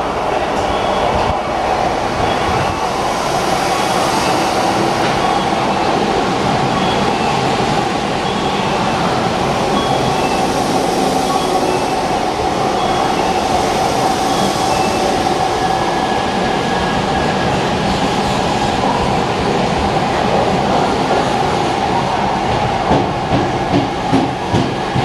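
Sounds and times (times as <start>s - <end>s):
electric train passing: 0.0s - 25.0s
rumble of train wheels: 0.0s - 25.0s.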